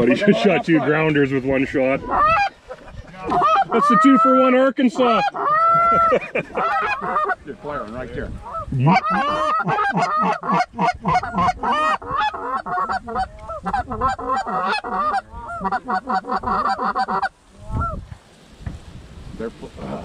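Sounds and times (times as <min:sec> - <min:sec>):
geese honking and clucking: 0:00.0 - 0:18.0.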